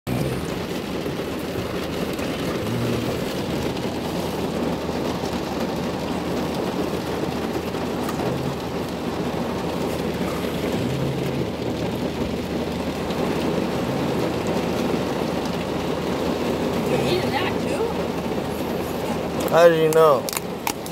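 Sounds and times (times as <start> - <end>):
rushing noise inside car: 0.1 - 20.9.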